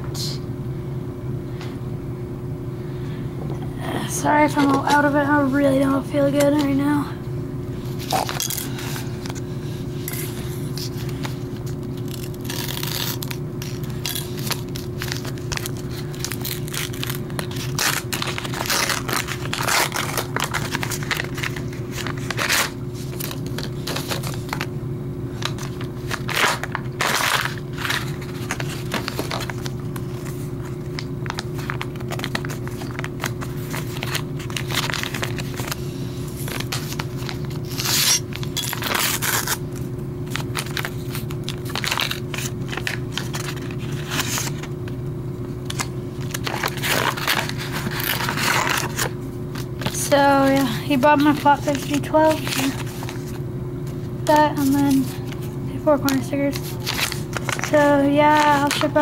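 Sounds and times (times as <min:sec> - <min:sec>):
steady low hum: 0:00.0 - 0:59.0
paper envelope rustling and tearing: 0:07.8 - 0:24.7, 0:25.3 - 0:45.0, 0:45.6 - 0:59.0.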